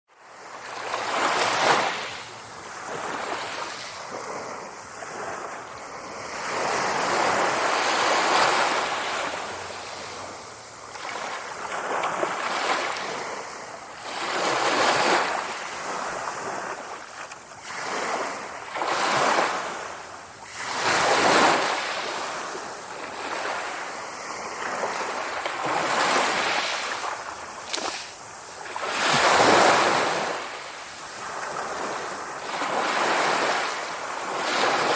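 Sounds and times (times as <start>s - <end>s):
sea waves breaking on shore: 0.2s - 34.9s.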